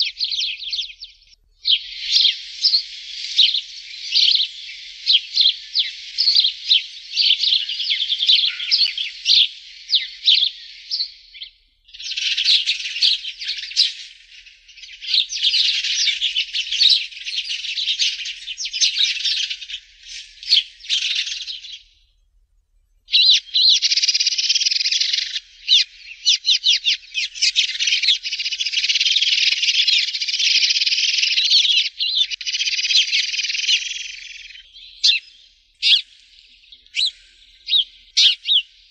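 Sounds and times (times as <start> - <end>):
sparrows chirping: 0.0 - 22.3, 22.9 - 38.9.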